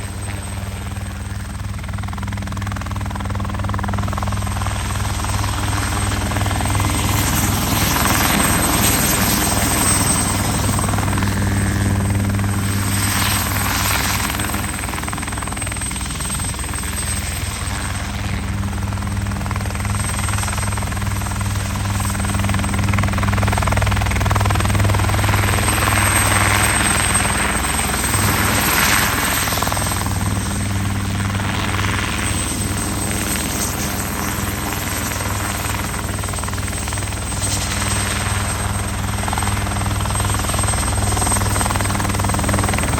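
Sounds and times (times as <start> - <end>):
engine drone: 0.0 - 42.9.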